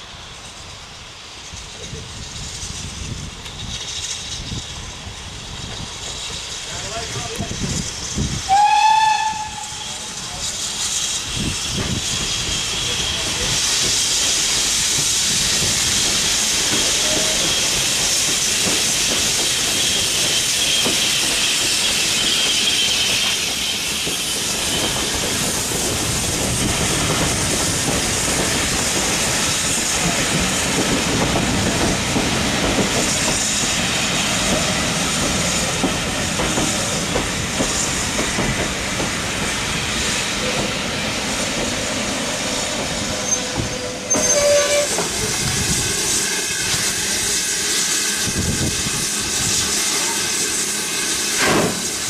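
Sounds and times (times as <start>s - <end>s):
steam locomotive hissing: 0.0s - 52.0s
train wheels clattering over rail joints: 10.2s - 52.0s.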